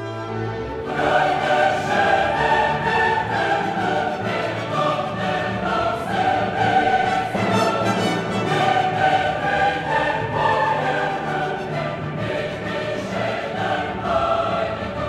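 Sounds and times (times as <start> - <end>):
choir singing long held notes: 0.0 - 15.0
orchestra playing: 0.0 - 15.0.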